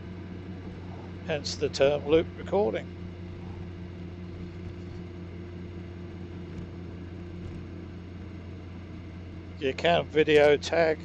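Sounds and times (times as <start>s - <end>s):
wind and road noise: 0.0s - 9.6s
motorcycle engine humming: 0.0s - 11.0s.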